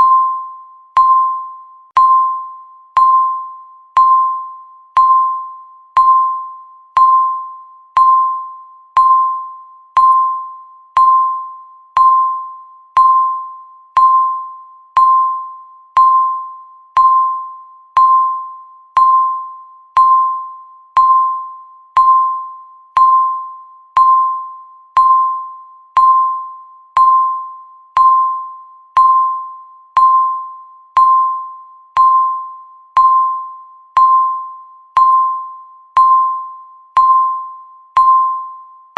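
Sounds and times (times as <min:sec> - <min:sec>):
electronic timer beep: 0:00.0 - 0:38.9.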